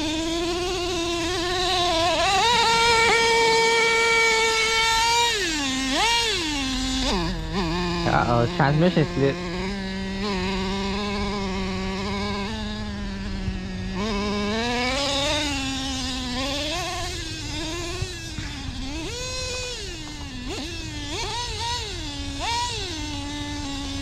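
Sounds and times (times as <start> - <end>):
rc truck engine buzzing and revving: 0.0 - 24.0.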